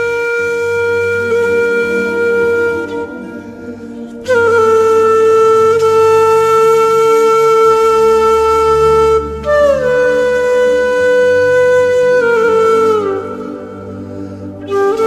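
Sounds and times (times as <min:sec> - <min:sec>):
low musical accompaniment: 0:00.0 - 0:15.0
wind instrument long held notes: 0:00.0 - 0:15.0.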